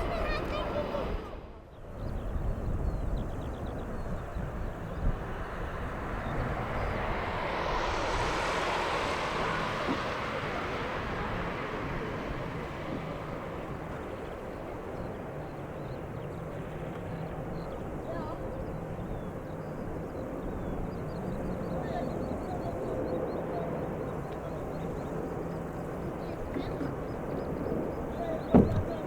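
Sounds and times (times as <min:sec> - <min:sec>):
jet airliner passing by: 0:00.0 - 0:29.0.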